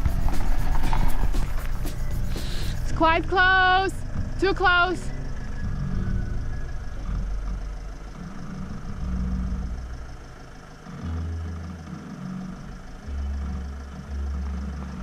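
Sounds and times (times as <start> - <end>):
van engine at low revs: 0.0 - 15.0.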